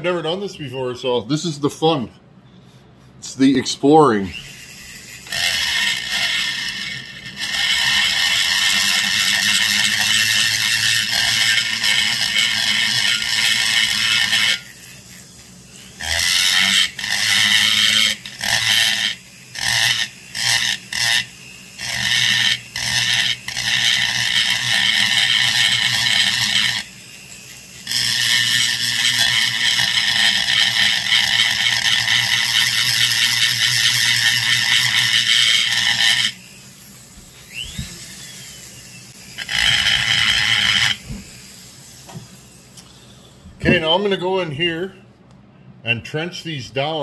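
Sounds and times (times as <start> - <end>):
rotary tool grinding metal: 3.8 - 44.4.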